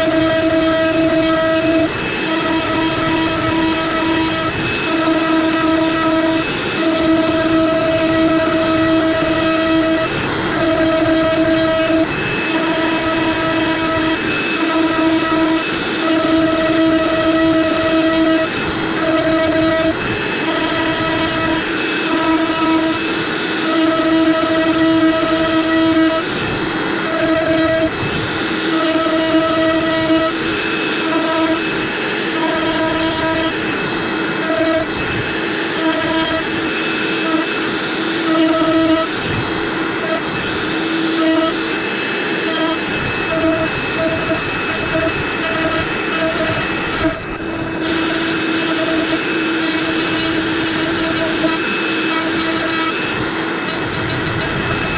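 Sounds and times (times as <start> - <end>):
router spindle whining: 0.0 - 54.9.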